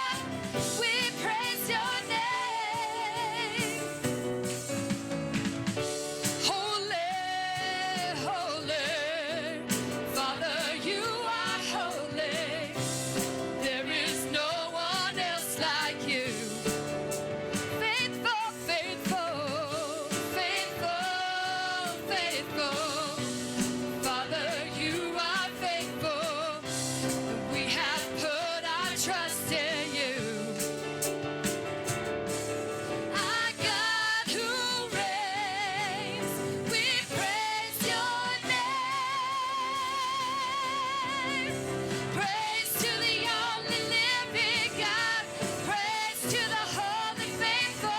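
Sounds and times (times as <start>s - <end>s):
band accompanying: 0.0s - 47.9s
person singing with vibrato: 6.2s - 16.9s, 17.8s - 30.9s, 33.1s - 47.9s.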